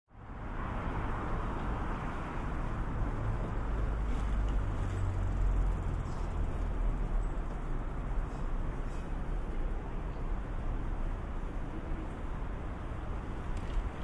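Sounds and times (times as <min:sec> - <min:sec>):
distant traffic: 0:00.1 - 0:14.0.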